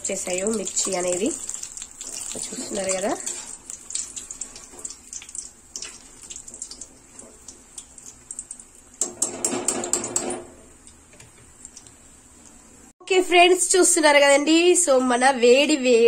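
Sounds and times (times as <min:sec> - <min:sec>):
deep-frying sizzle: 0:00.0 - 0:12.9.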